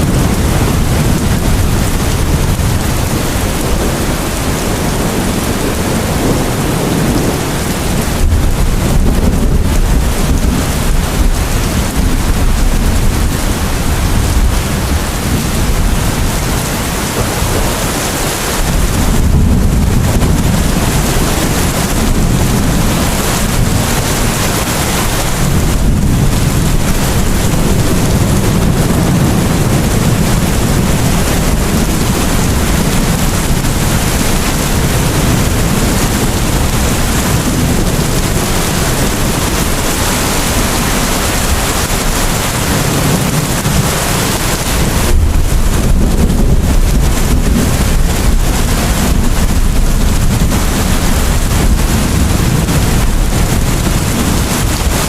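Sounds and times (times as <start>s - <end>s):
heavy rain: 0.0s - 55.0s
low thunder rumble: 0.0s - 55.0s.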